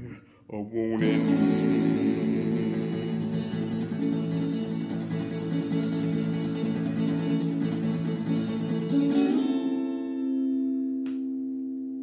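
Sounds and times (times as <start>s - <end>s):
guitar strumming: 1.0s - 12.0s.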